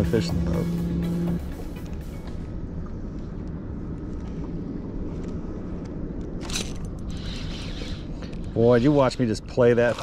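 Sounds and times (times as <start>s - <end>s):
boat low rumble: 0.0s - 10.0s.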